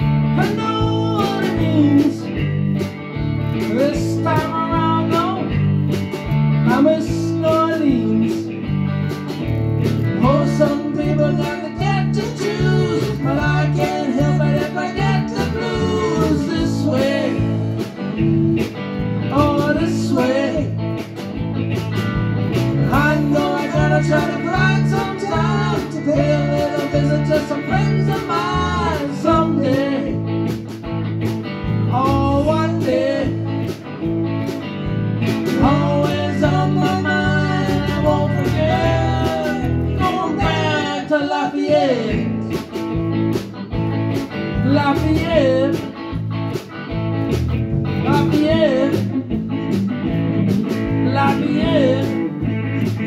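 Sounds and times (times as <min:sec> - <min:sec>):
bass guitar: 0:00.0 - 0:53.0
drum kit with cymbals and snare: 0:00.0 - 0:53.0
lead guitar with bent notes: 0:00.0 - 0:53.0.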